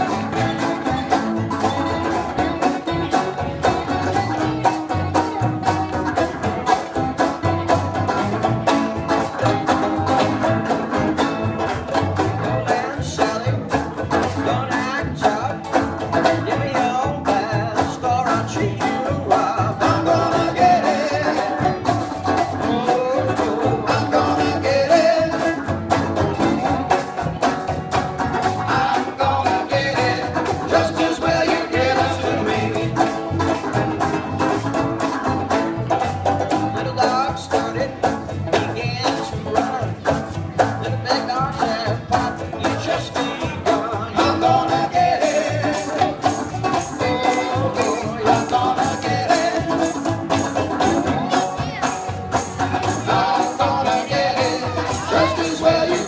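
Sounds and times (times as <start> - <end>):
drums: 0.0 - 56.0
picked banjo: 0.0 - 56.0
strummed acoustic guitars: 0.0 - 56.0
upright bass: 0.0 - 56.0.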